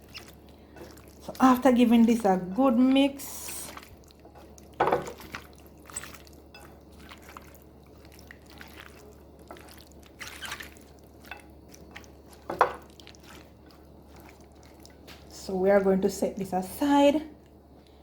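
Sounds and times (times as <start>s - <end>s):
wet squishing of chicken in marinade: 0.0s - 15.7s.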